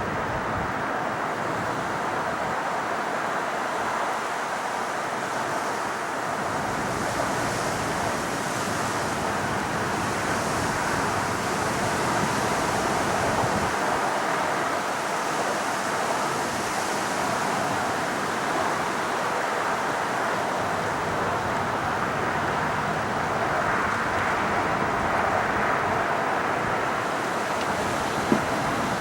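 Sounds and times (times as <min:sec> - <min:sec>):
distant jet engines roaring: 0:00.0 - 0:29.0.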